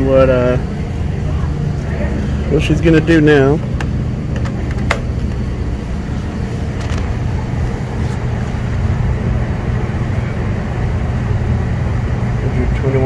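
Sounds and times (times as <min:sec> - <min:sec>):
compressor humming: 0:00.0 - 0:13.0
condenser fan running: 0:00.0 - 0:13.0.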